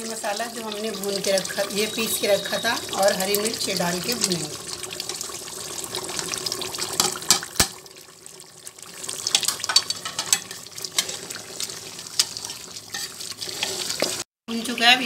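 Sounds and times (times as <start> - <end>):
meat and spices sizzling: 0.0 - 15.0.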